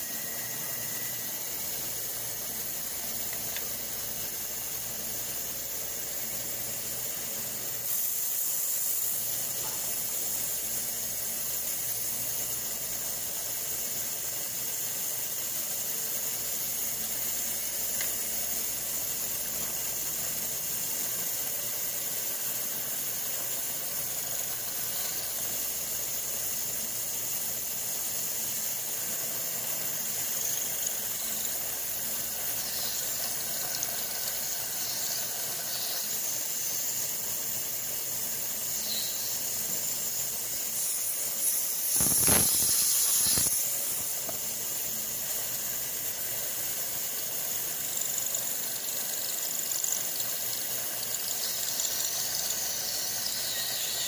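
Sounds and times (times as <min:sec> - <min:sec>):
milling machine hiss: 0:00.0 - 0:54.0.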